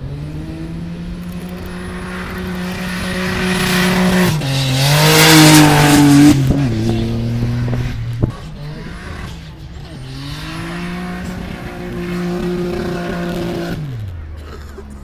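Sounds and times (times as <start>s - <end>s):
car engine at high revs: 0.0s - 14.4s.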